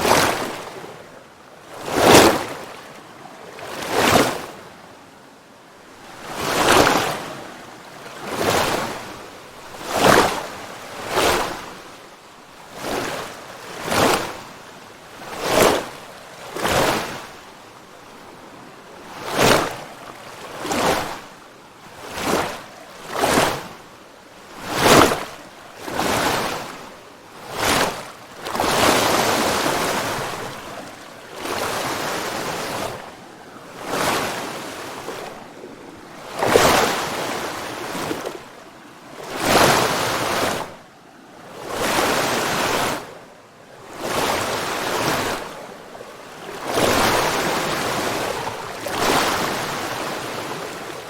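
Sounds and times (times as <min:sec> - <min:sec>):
small waves washing in: 0:00.0 - 0:04.8, 0:05.9 - 0:51.0.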